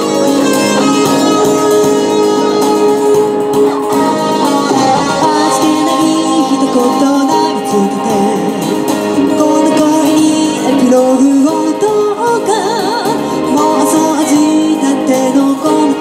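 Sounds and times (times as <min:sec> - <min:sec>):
backing music: 0:00.0 - 0:16.0
woman singing into microphone: 0:00.0 - 0:16.0.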